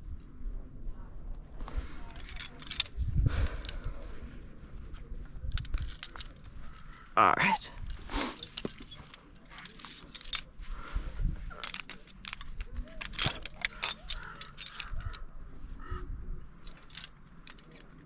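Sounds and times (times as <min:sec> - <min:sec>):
metal climbing hardware clinking: 0:01.7 - 0:07.2, 0:07.8 - 0:18.0.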